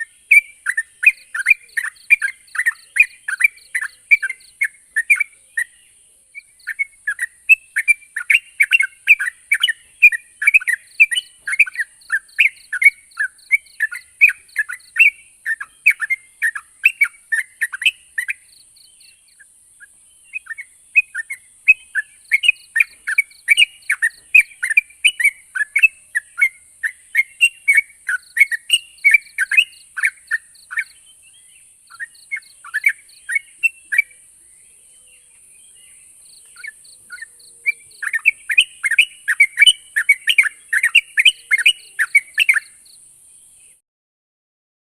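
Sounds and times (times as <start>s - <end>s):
bulbul chattering song: 0.0s - 43.8s.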